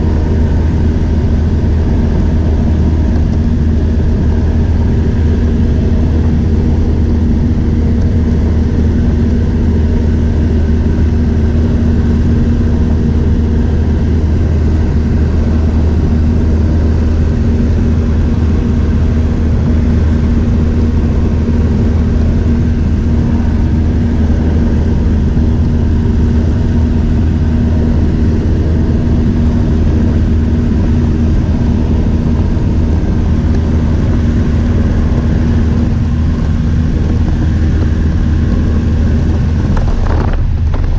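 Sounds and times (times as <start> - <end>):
aircraft engine and propeller hum: 0.0 - 40.9.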